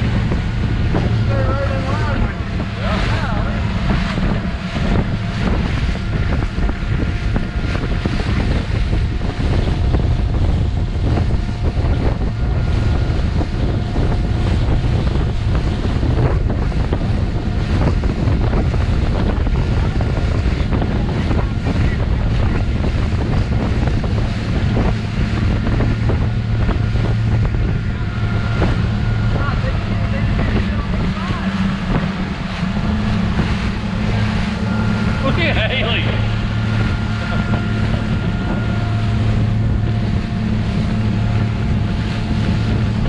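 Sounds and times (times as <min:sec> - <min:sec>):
faint engine whine: 0:00.0 - 0:43.0
water noise: 0:00.0 - 0:43.0
wind rumbling on microphone: 0:00.0 - 0:43.0.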